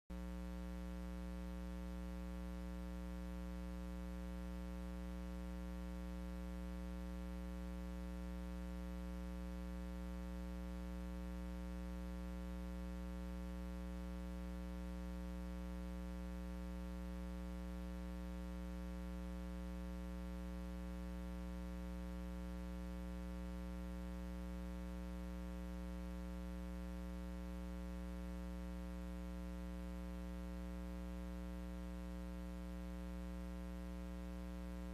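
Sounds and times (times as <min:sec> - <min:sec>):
electrical mains hum: 0:00.1 - 0:34.9.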